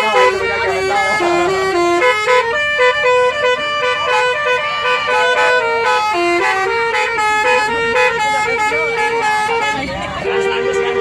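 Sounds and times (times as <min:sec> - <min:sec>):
multi-tone musical vehicle horn: 0:00.0 - 0:11.0.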